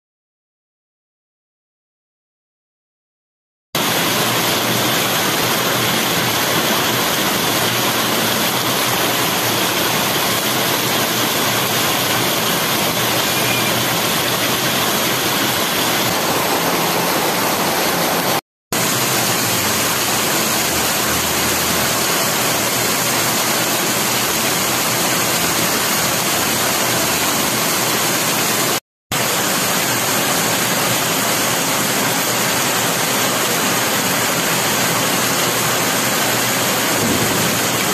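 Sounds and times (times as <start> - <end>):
heavy rain pouring: 3.8 - 37.9.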